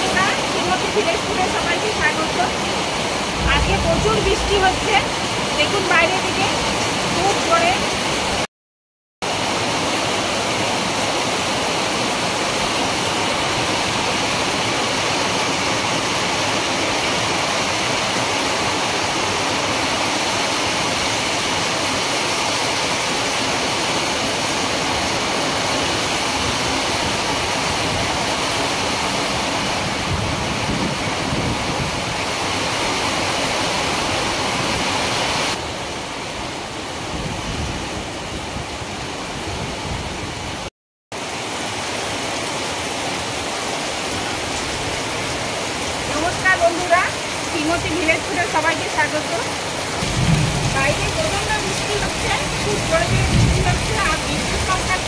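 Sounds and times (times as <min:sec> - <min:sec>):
heavy rain pouring: 0:00.0 - 0:08.5, 0:09.2 - 0:55.0.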